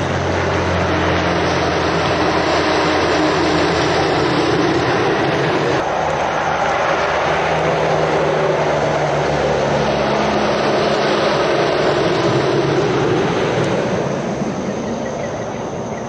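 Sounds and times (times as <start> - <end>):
lorry engine drone: 0.0 - 16.0
tyre and road noise: 0.0 - 16.0.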